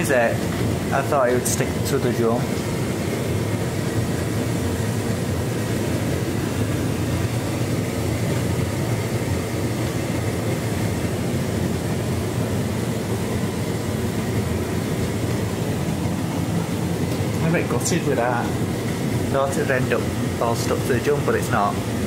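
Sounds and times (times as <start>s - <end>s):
tumble dryer motor humming: 0.0s - 22.0s.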